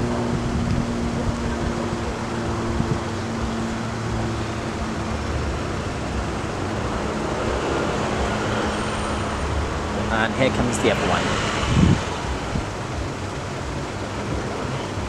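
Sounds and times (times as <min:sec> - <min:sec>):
low steady hum: 0:00.0 - 0:15.0
vehicle engines running: 0:00.0 - 0:15.0.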